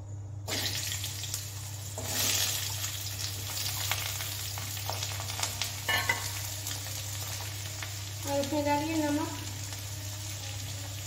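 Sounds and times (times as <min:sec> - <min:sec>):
potatoes sizzling in hot oil: 0:00.5 - 0:11.0.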